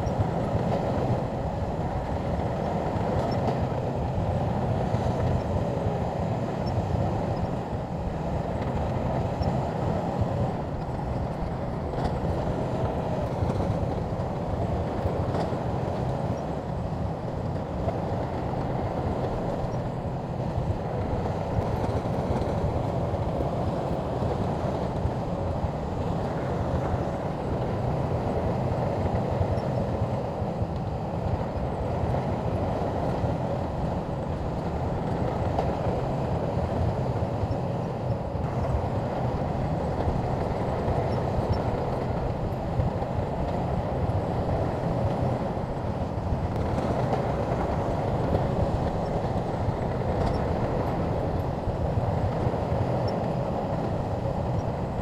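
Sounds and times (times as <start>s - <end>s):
bulldozer engine and tracks: 0.0s - 55.0s.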